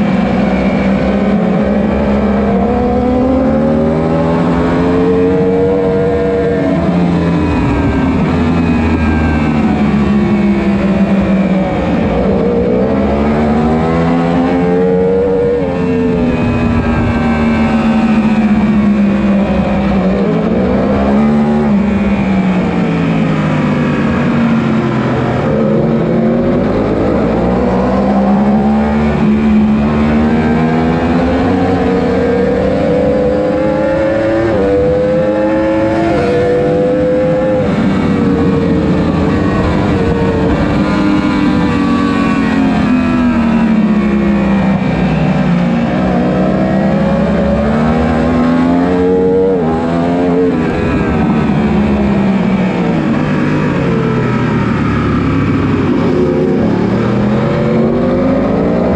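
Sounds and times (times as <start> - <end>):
motorcycle engine at high revs: 0.0 - 58.9.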